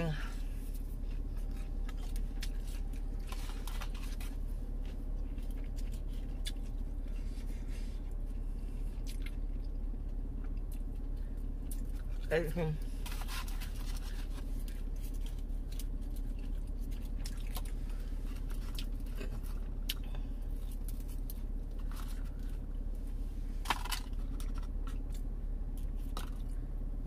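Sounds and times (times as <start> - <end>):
chewing food: 0.0 - 23.1
low hum in car cabin: 0.0 - 27.0.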